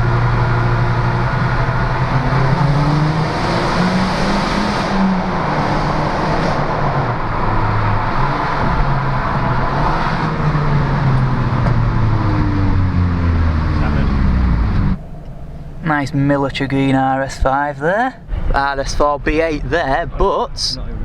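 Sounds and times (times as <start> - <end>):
car engine hum: 0.0 - 21.0
road noise inside car: 0.0 - 21.0.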